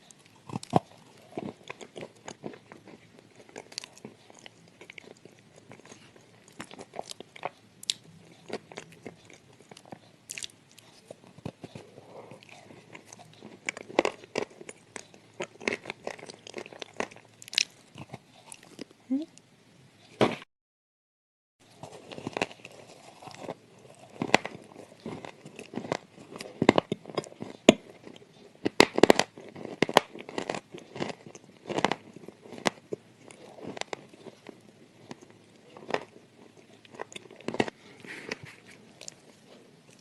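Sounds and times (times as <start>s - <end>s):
crunching and chewing clay: 0.0s - 19.0s, 21.6s - 40.0s.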